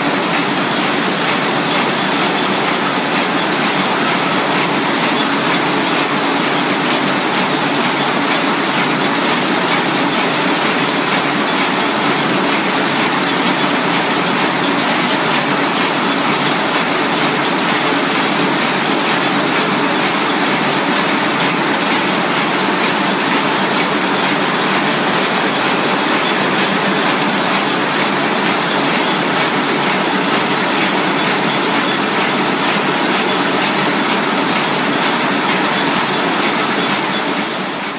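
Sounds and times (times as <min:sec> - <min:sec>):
paper bag machine running: 0:00.0 - 0:37.9.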